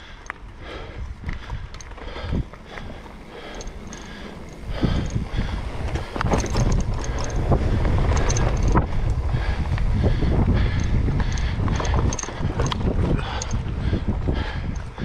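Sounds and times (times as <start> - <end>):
bike knocking and rattling: 0.0 - 15.0
bike tyre rumble: 0.0 - 15.0
wind rushing over microphone: 0.0 - 15.0.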